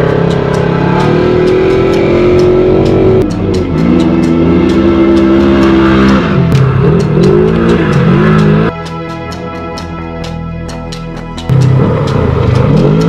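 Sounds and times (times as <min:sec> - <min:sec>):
music with steady beat: 0:00.0 - 0:13.0
off-road vehicle engine revving: 0:00.0 - 0:13.0.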